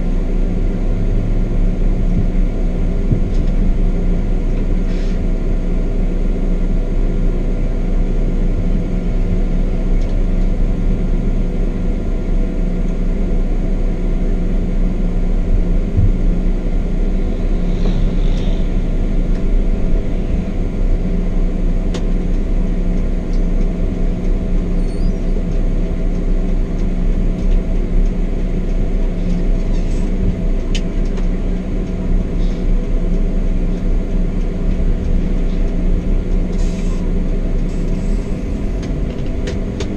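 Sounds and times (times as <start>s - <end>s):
coach engine drone: 0.0s - 39.9s
road rumble: 0.0s - 39.9s.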